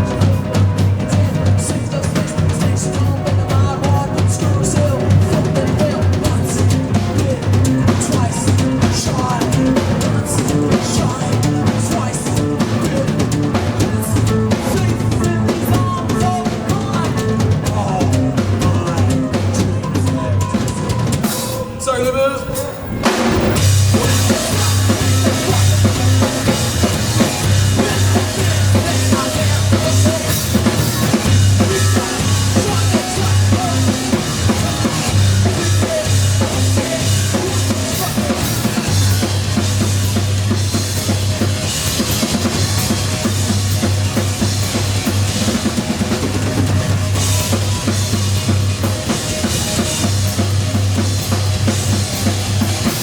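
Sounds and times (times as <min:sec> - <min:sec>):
heavy bass guitar: 0:00.0 - 0:22.3, 0:22.9 - 0:53.0
drum kit: 0:00.0 - 0:53.0
rock band playing loud: 0:00.0 - 0:53.0.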